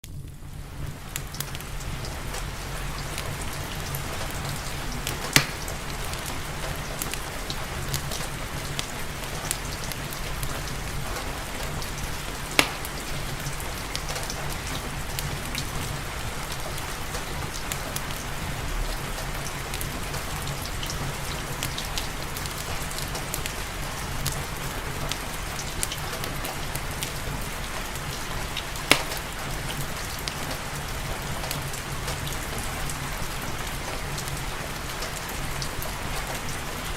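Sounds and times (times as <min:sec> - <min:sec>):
rain falling: 0:00.0 - 0:36.9
wood fire crackling: 0:00.0 - 0:36.9.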